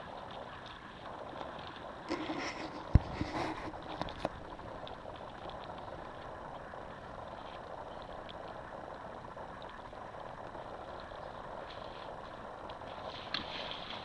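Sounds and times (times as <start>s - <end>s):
steady hiss: 0.0s - 14.0s
water splashing: 0.0s - 14.0s.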